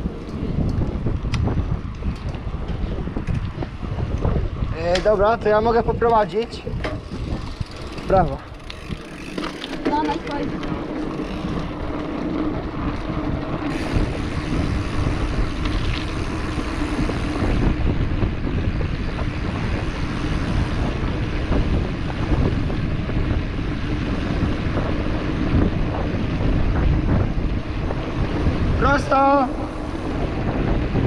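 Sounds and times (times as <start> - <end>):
bike rattling over cobblestones: 0.0 - 31.0
wind on microphone: 0.0 - 31.0.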